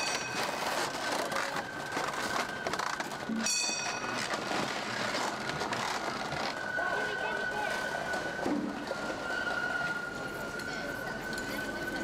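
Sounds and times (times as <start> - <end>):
wooden wheels grinding and squealing: 0.0 - 12.0.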